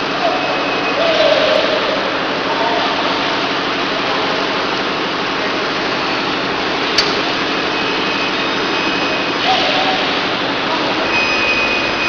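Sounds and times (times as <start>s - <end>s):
production line machinery running: 0.0s - 12.0s.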